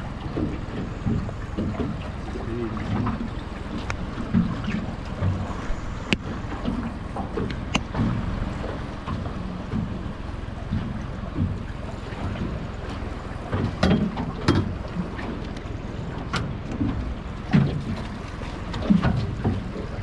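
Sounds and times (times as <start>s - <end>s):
sloshing water: 0.0s - 20.0s.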